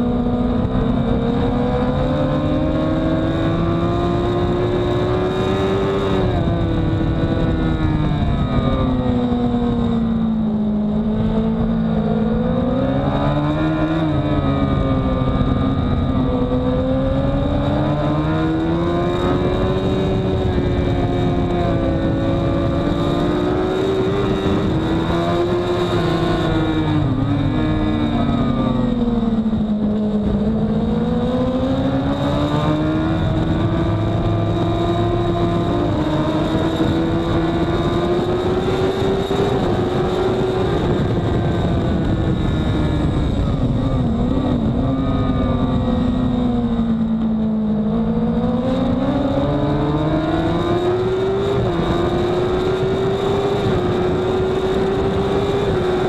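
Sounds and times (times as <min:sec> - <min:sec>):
motorcycle engine pulling hard: 0:00.0 - 0:56.0
wind rush: 0:00.0 - 0:56.0.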